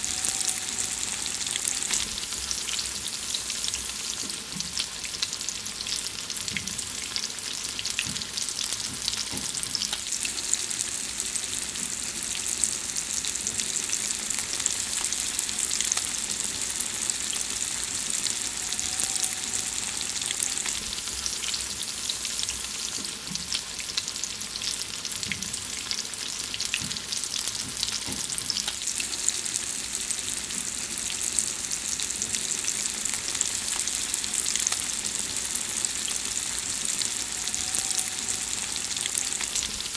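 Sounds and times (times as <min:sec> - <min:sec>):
food sizzling in oil: 0:00.0 - 0:39.9.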